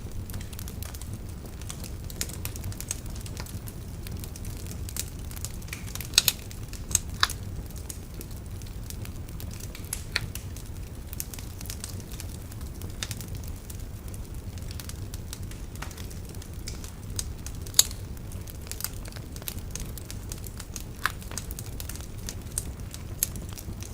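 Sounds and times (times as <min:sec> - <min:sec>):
bonfire crackling and popping: 0:00.0 - 0:23.9.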